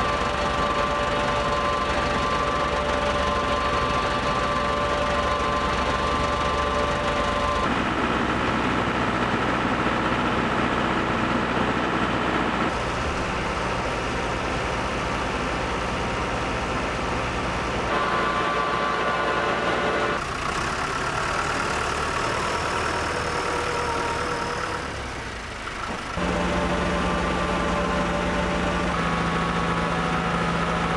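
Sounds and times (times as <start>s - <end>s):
tractor and feed mixer droning: 0.0s - 30.9s.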